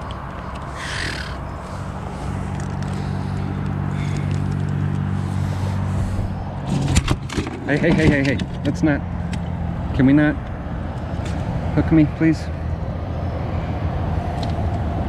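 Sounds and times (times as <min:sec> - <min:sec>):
road traffic drone: 0:00.0 - 0:15.0.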